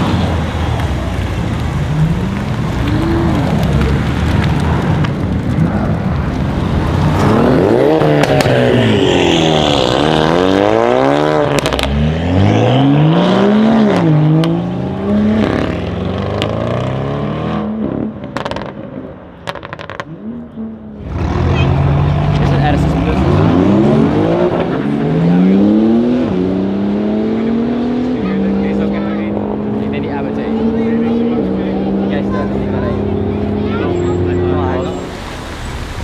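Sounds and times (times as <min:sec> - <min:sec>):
car engine accelerating with upshifts: 0:00.0 - 0:35.2.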